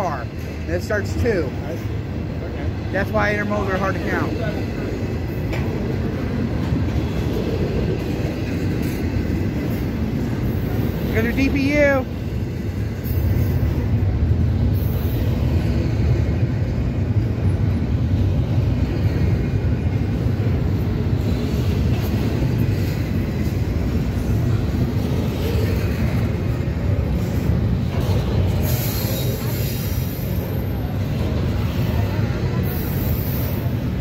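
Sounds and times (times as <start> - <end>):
steel wheels rumbling on rails: 0.0 - 34.0.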